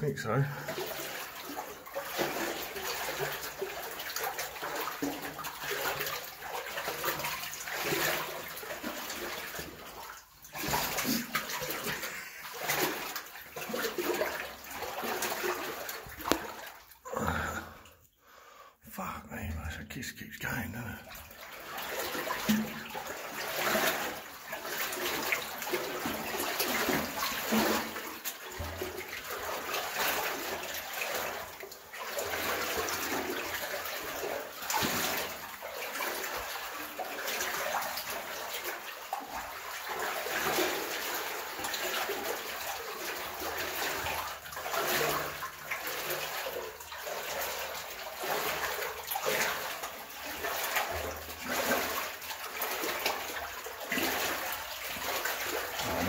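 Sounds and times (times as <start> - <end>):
boots wading through water: 0.5 - 17.8, 21.2 - 56.0.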